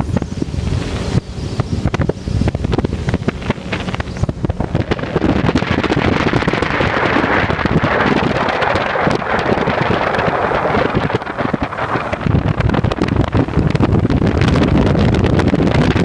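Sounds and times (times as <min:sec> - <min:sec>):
motorcycle rumble: 0:00.0 - 0:16.0
wind buffeting microphone: 0:00.0 - 0:16.0.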